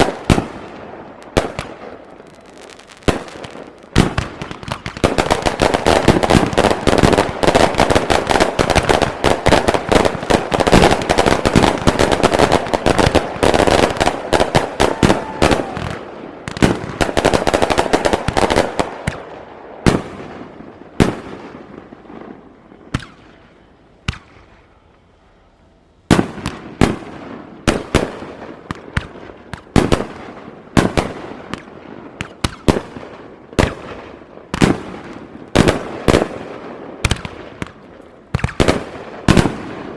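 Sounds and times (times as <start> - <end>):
fireworks bangs and crackle: 0.0 - 24.7, 26.1 - 39.9.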